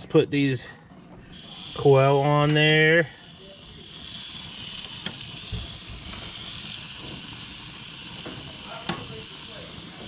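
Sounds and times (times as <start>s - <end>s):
meat sizzling on a grill: 1.3s - 10.0s.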